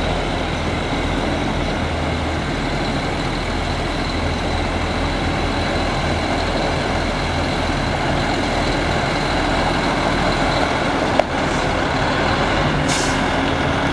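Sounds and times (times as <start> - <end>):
diesel truck idling: 0.0 - 13.9.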